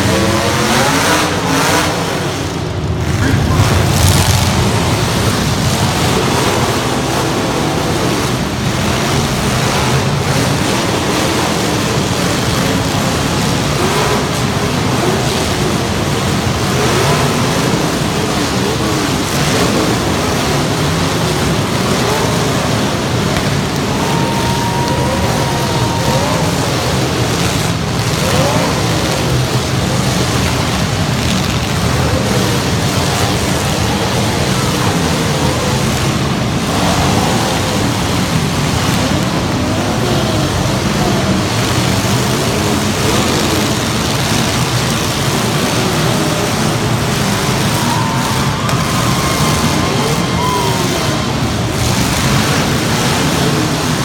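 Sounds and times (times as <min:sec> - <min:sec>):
truck engines running: 0:00.0 - 0:54.0.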